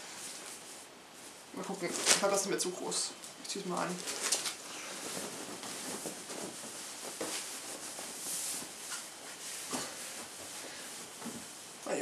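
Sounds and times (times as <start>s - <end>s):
fabric rustling: 0.0s - 11.8s.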